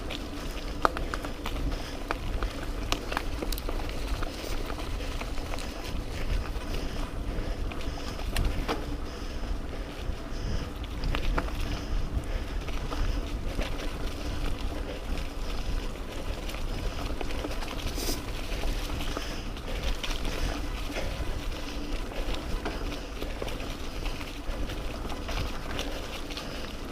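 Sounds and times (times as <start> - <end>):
bike clicks and rattles: 0.0 - 26.9
mountain bike rolling over dirt: 0.0 - 26.9
wind buffeting microphone: 0.0 - 26.9.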